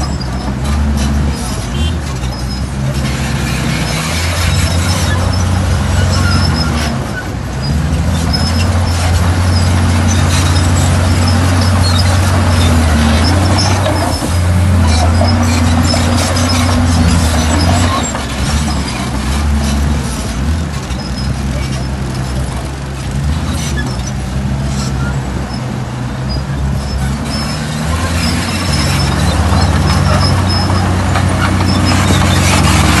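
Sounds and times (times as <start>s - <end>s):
high metallic squeaks: 0.0s - 22.6s, 23.2s - 33.0s
bulldozer diesel engine working: 0.0s - 33.0s.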